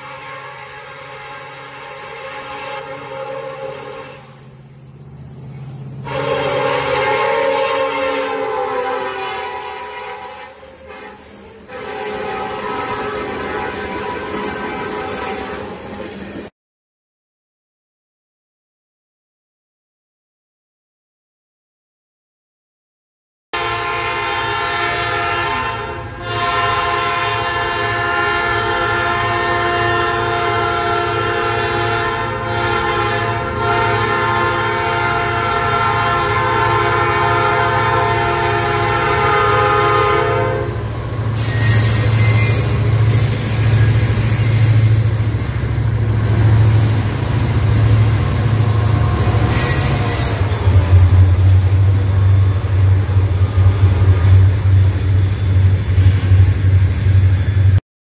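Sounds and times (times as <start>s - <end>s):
diesel locomotive horn: 0.0s - 4.6s, 6.0s - 16.0s, 23.6s - 56.4s
locomotive engines rumbling: 0.0s - 16.5s, 23.6s - 57.8s.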